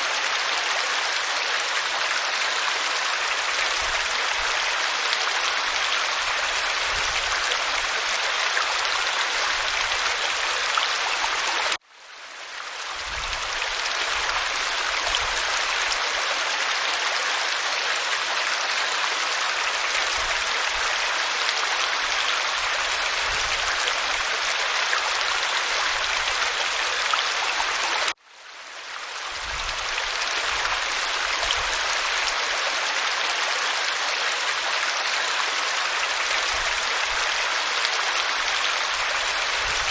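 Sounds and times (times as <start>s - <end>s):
waterfall pouring over rock: 0.0s - 11.8s, 12.4s - 28.2s, 28.8s - 39.9s.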